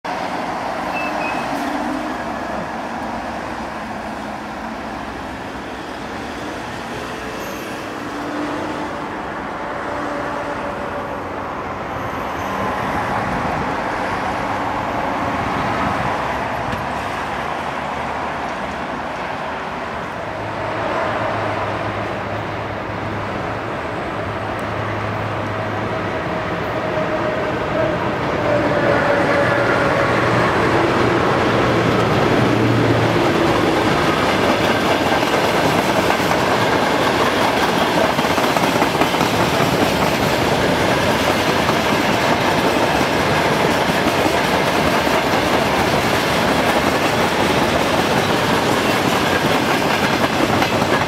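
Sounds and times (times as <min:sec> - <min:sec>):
freight train rumbling: 0:00.0 - 0:51.0
road traffic passing: 0:00.1 - 0:51.0.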